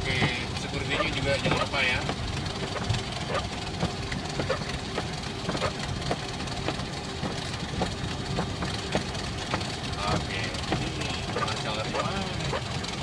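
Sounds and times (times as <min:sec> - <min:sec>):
jet engines idling rumble: 0:00.0 - 0:13.0.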